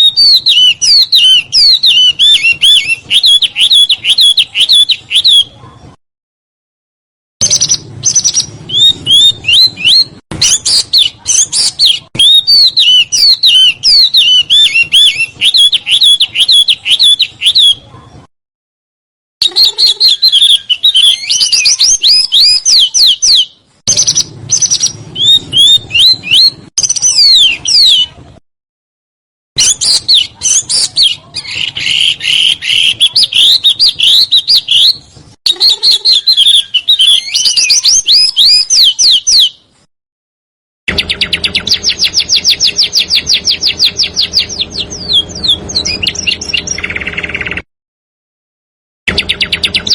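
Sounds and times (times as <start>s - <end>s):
fast even bird trill: 0.0s - 5.6s, 7.4s - 17.9s, 19.4s - 28.2s, 29.6s - 39.6s, 40.9s - 47.7s, 49.1s - 49.9s
songbird singing: 0.0s - 5.8s, 7.4s - 18.0s, 19.4s - 28.2s, 29.6s - 39.8s, 40.9s - 47.7s, 49.1s - 49.9s.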